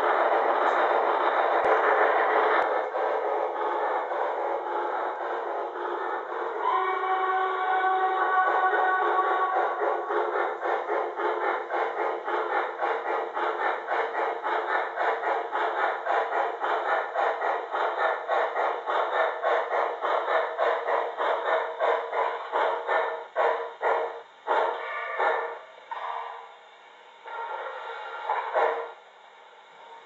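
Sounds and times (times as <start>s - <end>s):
model steam locomotive chuffs: 0.0s - 30.0s.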